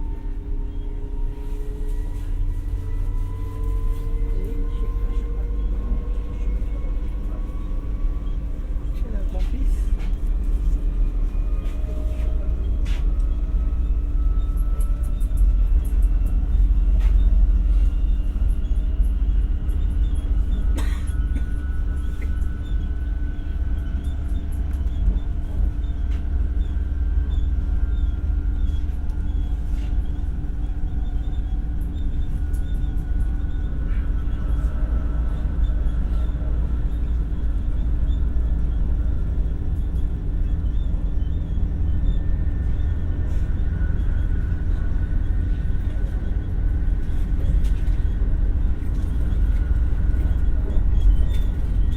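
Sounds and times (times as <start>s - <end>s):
wheels rumbling on rail: 0.0s - 51.9s.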